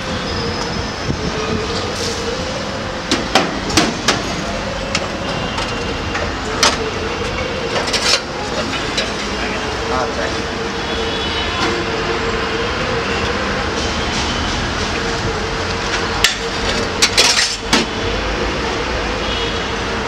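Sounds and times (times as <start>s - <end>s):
steady background rush: 0.0s - 20.0s.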